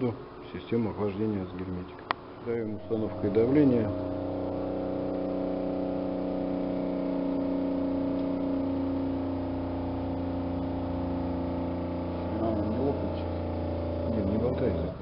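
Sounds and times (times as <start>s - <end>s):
electric motor humming: 2.4s - 15.0s.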